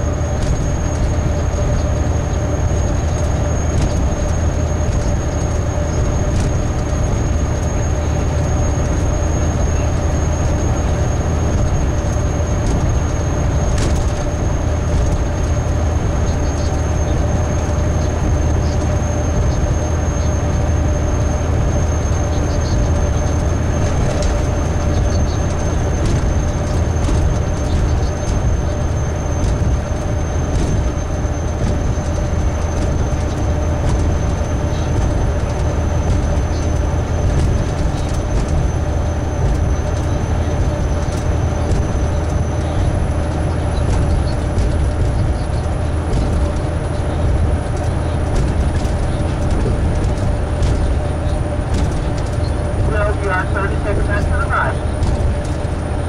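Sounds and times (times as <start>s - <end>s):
road and tire noise: 0.0s - 56.0s
truck engine drone: 0.0s - 56.0s.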